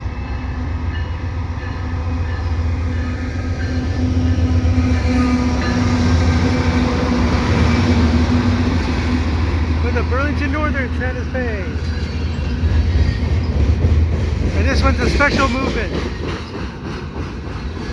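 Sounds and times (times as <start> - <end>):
diesel locomotive engine drone: 0.0 - 17.9.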